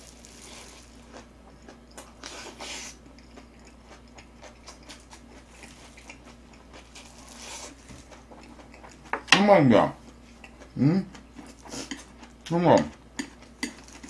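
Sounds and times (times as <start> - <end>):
wet chewing: 0.0 - 9.3, 10.0 - 14.0.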